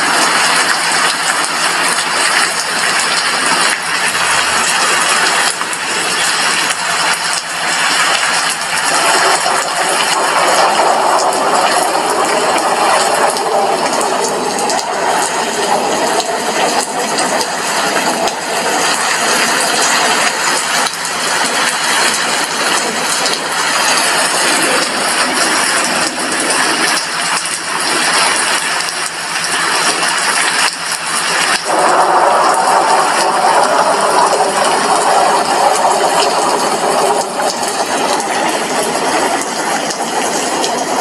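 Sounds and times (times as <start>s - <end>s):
heavy rain on glass window: 0.0s - 41.0s.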